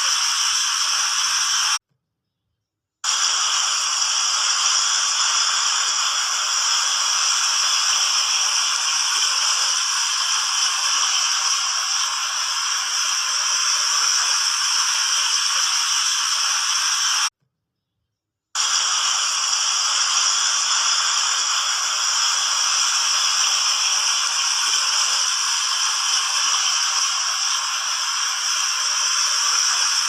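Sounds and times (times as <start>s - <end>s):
fountain water splashing: 3.2s - 17.3s, 18.6s - 30.0s.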